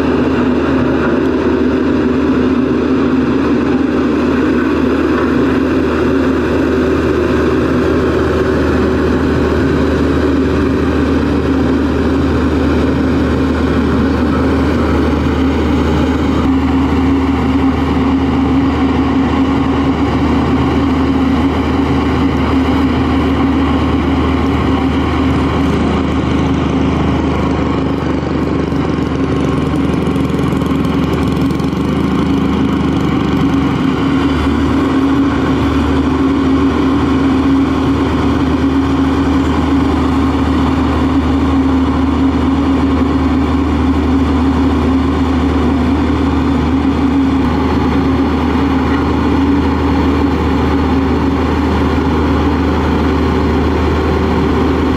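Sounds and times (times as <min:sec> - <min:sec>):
motor grader running: 0:00.0 - 0:54.9
roller compactor diesel engine drone: 0:00.0 - 0:54.9.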